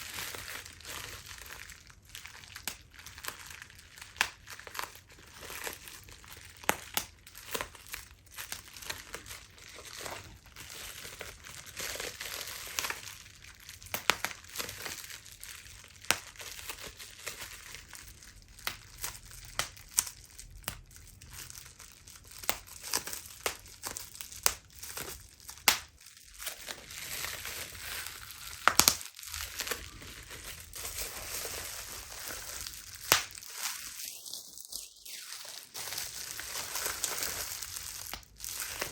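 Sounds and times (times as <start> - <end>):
bubble wrap crinkling and popping: 0.0 - 38.9.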